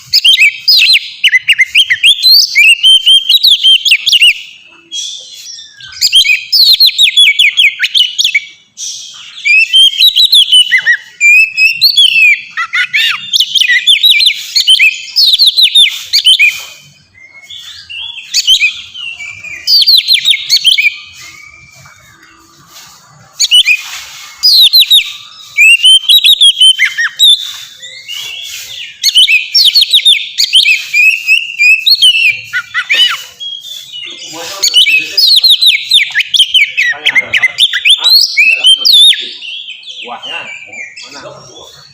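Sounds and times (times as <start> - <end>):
bird singing whistled notes: 0.0 - 41.9.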